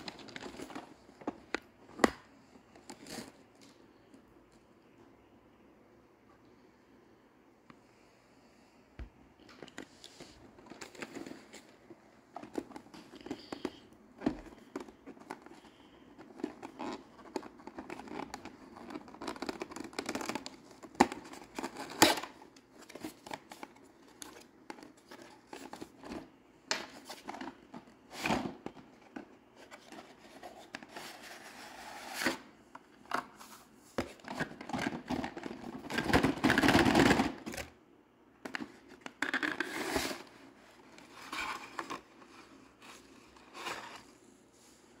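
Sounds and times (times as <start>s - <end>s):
card and plastic rustling: 0.0s - 3.9s, 9.4s - 37.8s, 38.4s - 44.2s.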